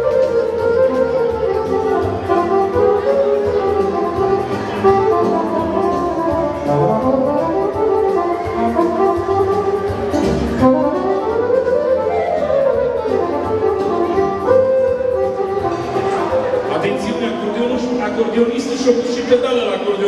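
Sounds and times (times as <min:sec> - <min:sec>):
accordion melody: 0:00.0 - 0:20.0
electronic organ chords: 0:00.0 - 0:20.0.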